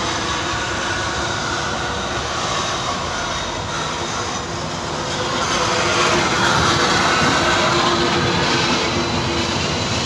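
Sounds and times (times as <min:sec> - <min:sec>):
tram wheels rolling on rails: 0:00.0 - 0:10.0.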